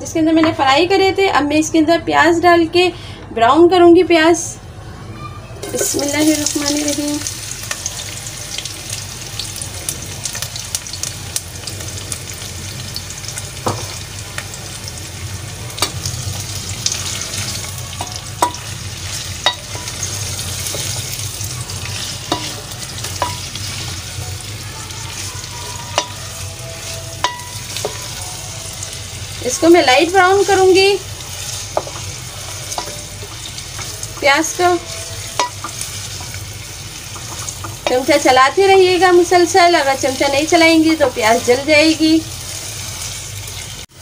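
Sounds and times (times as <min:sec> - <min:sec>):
onions sizzling in hot oil: 0:05.6 - 0:44.0.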